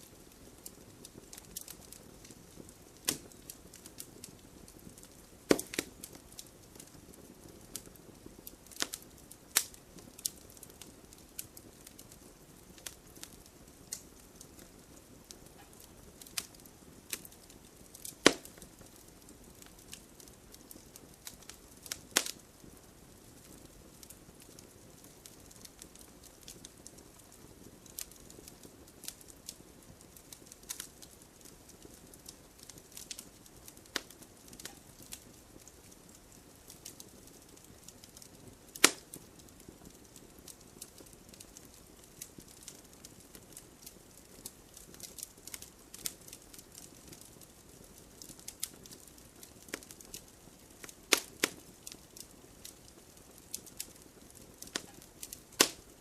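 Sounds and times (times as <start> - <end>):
campfire hissing: 0.0 - 56.0
wood crackling and popping: 0.0 - 56.0.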